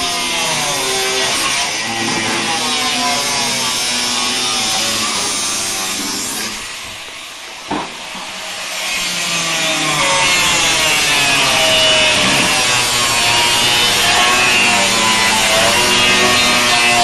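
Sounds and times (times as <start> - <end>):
power saw cutting sheet metal: 0.0 - 17.0.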